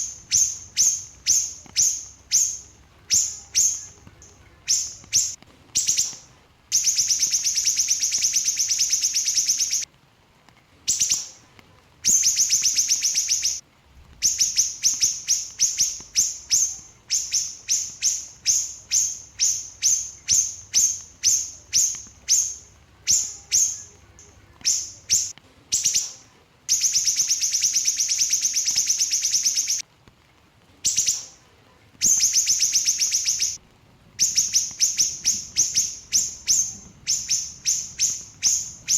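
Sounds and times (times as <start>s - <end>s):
small bird trilling: 0.0s - 9.9s, 12.1s - 13.6s, 14.2s - 29.8s, 32.0s - 33.6s, 34.2s - 38.9s.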